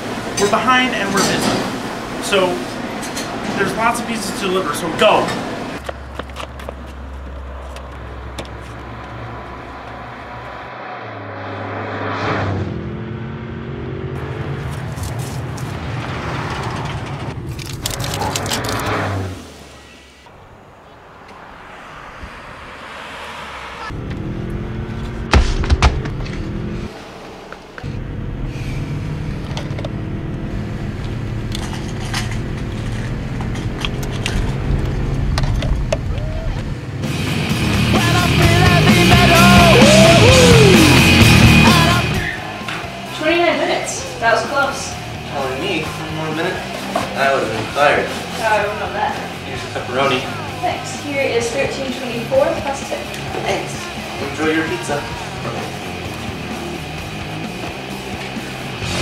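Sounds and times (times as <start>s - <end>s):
car engine humming: 0.0s - 59.0s
car driving past: 1.2s - 17.5s, 18.5s - 59.0s.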